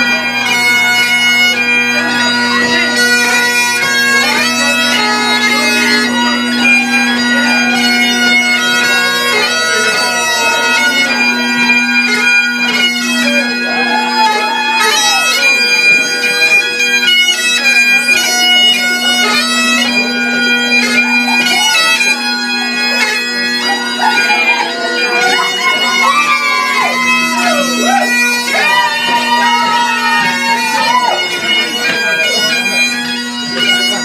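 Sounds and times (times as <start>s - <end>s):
bagpipes playing a dance tune: 0.0s - 34.0s.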